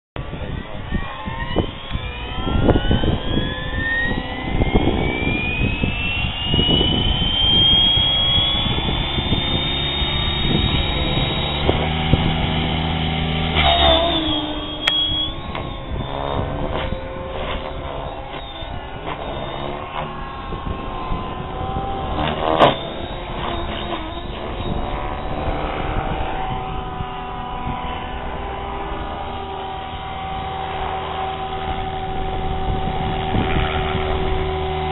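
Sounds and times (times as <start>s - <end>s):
rc helicopter rotor whine: 0.2s - 34.9s.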